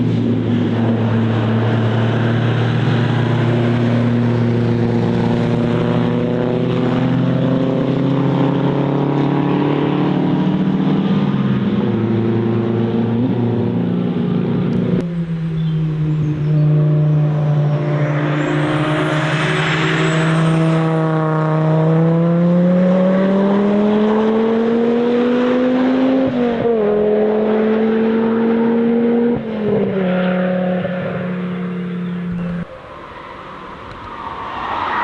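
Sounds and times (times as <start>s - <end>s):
car engine running hard: 0.0s - 34.8s.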